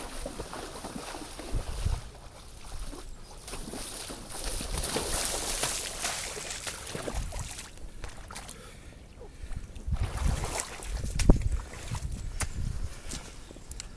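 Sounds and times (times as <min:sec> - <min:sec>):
footsteps splashing through puddle: 0:00.0 - 0:08.6, 0:09.4 - 0:13.4.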